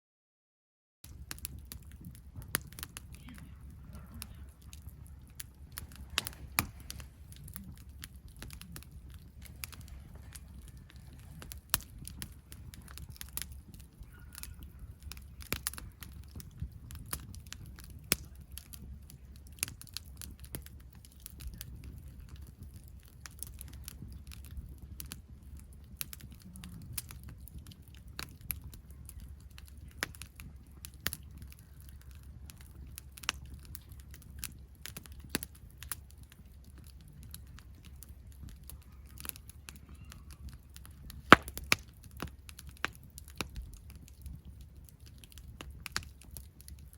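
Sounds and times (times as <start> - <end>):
campfire crackling and popping: 1.0 - 46.9.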